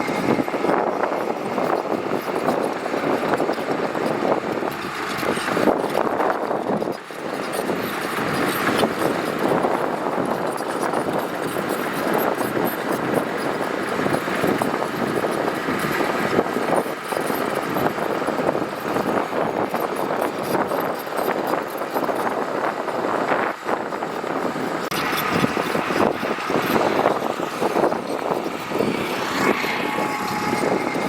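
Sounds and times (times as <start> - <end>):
diesel engine under load: 0.0 - 31.0
gravel rattling and clatter: 0.0 - 31.0.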